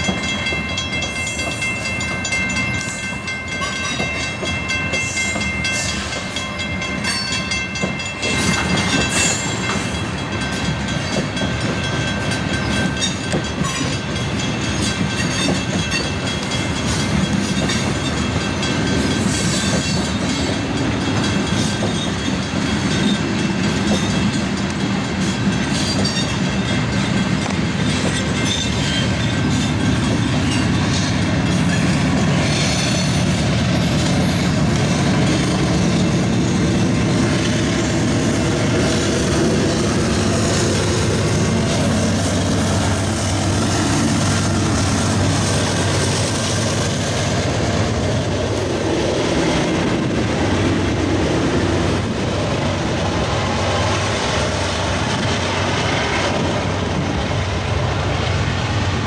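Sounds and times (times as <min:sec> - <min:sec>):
diesel locomotive engine drone: 0:00.0 - 0:59.0
train wheels rumbling on rails: 0:00.0 - 0:59.0.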